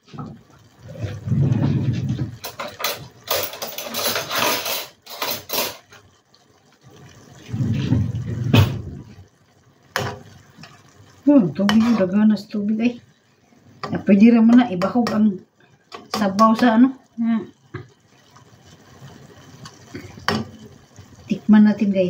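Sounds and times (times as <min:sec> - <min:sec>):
water running in spurts: 0:00.0 - 0:22.0.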